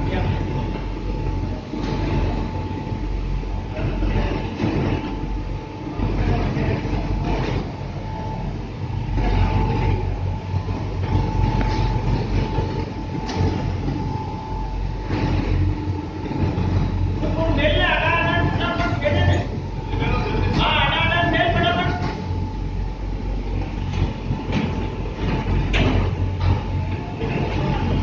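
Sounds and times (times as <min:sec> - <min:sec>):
conveyor machinery humming: 0:00.0 - 0:28.0
motor whine: 0:00.0 - 0:28.0.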